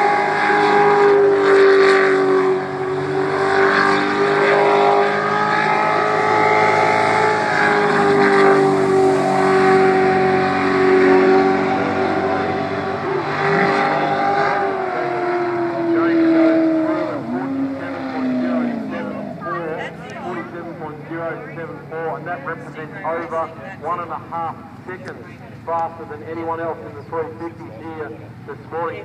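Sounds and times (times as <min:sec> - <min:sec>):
boat engine running at high revs: 0:00.0 - 0:29.0.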